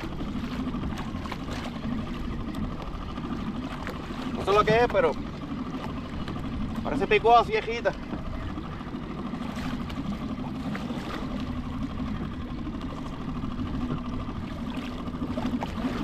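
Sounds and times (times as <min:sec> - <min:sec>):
low mechanical hum: 0:00.0 - 0:16.0
water rushing around kayak: 0:00.0 - 0:16.0
wind: 0:00.0 - 0:16.0.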